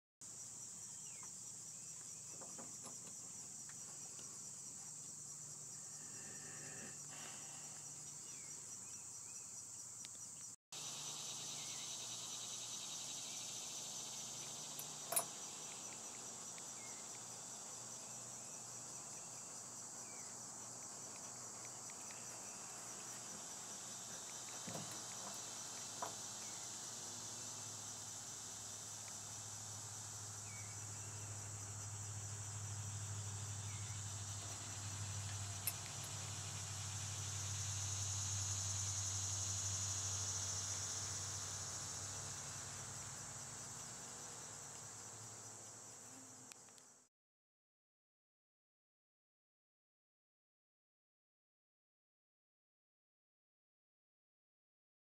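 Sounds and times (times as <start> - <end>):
insects chirping: 0.2 - 47.1.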